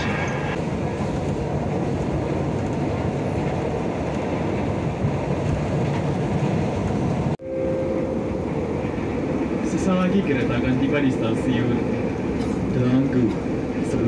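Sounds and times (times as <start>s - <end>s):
train carriage rumbling: 0.0s - 14.0s.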